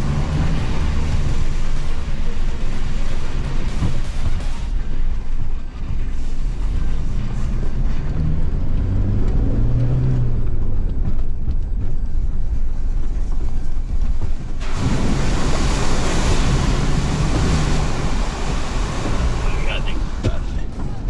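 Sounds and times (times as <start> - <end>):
truck engine working off-road: 0.0 - 21.0.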